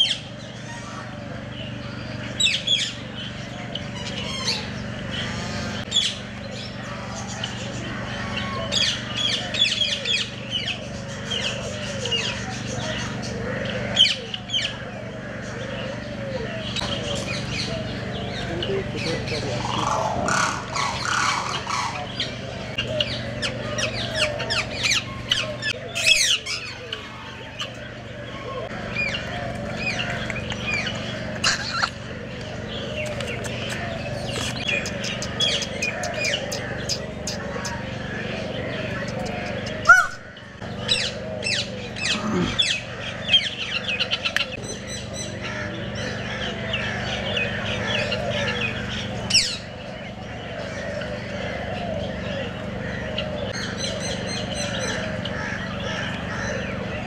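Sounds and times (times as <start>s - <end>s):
birds calling: 0.0s - 57.0s
low background hum: 0.0s - 57.0s.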